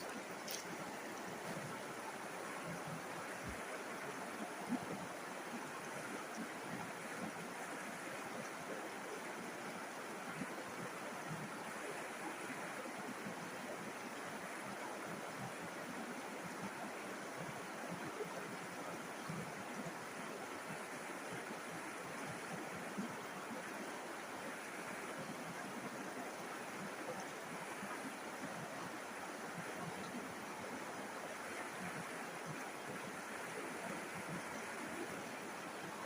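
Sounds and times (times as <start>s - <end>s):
river water flowing: 0.0s - 36.0s.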